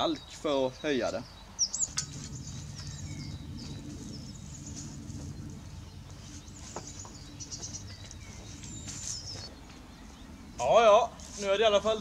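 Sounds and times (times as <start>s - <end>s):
songbirds chirping: 0.0s - 12.0s
steady low hum: 1.2s - 12.0s.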